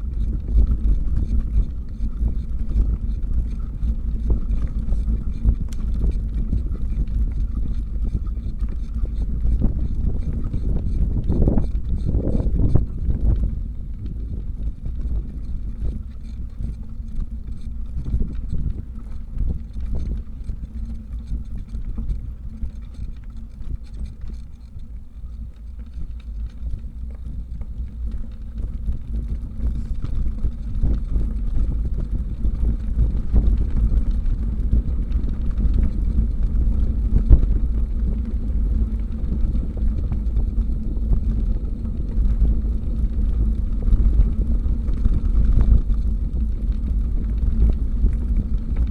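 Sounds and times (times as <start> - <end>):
wind buffeting microphone: 0.0 - 24.9, 25.7 - 48.9.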